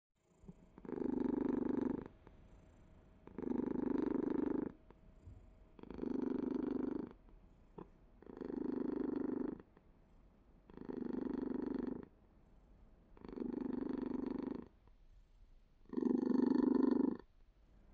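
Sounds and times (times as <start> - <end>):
cat purring: 0.2 - 17.9.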